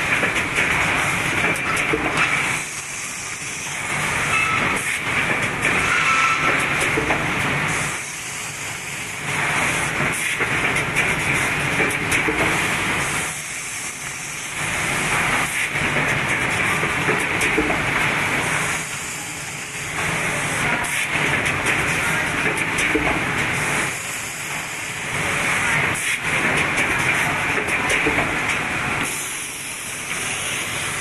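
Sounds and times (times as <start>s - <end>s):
machine whirring: 0.0s - 31.0s.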